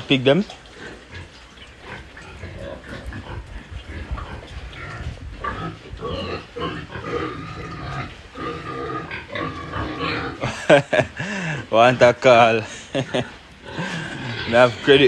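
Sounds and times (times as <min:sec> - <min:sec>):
pigs calling: 0:00.0 - 0:15.0.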